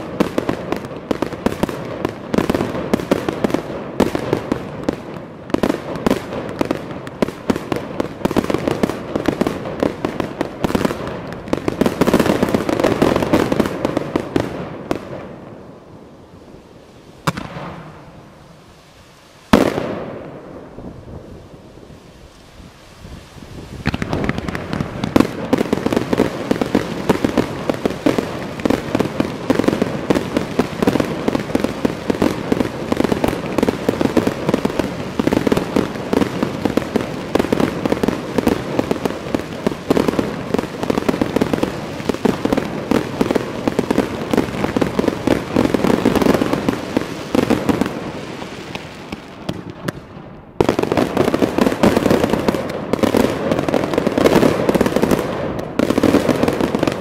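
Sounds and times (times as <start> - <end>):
fireworks banging and crackling: 0.0 - 57.0.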